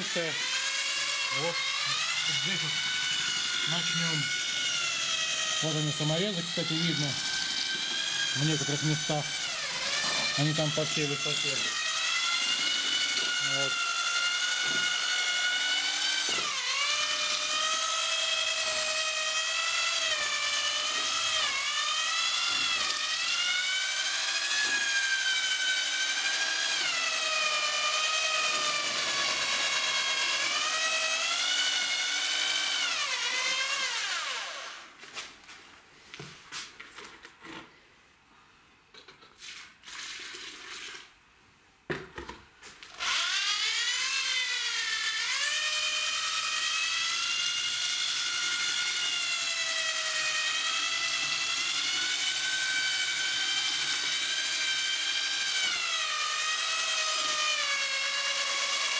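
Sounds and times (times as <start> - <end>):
electric drill mixing mortar: 0.0 - 35.6, 39.2 - 41.2, 42.2 - 58.9.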